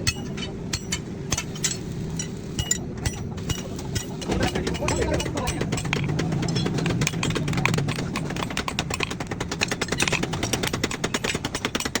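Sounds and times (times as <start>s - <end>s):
hammer striking hot steel: 0.0s - 12.0s.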